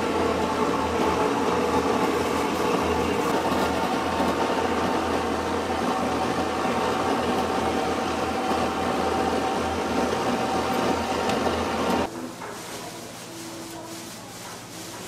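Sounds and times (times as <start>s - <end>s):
kitchen machine whirring: 0.0s - 15.0s.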